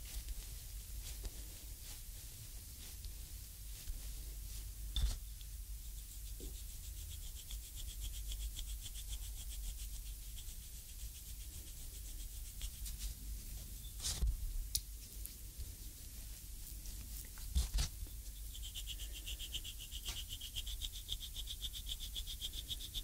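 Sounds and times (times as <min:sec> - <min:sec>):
soft rubbing on skin: 0:00.0 - 0:14.2, 0:14.9 - 0:23.0.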